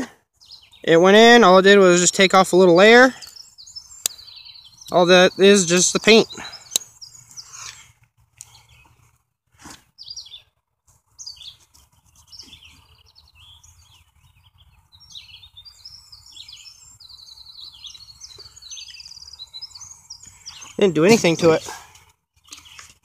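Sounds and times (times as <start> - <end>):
songbirds chirping and trilling: 0.0 - 23.0.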